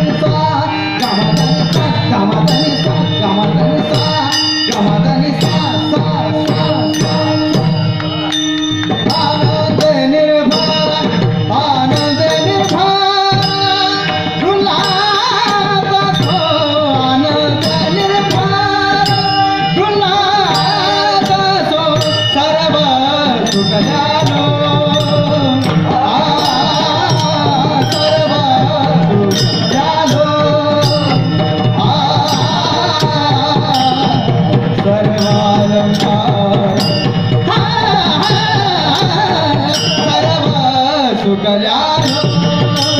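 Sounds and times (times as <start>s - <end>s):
devotional singing: 0.0s - 42.9s
drum beat: 0.0s - 42.9s
jingling metal percussion: 0.0s - 42.9s.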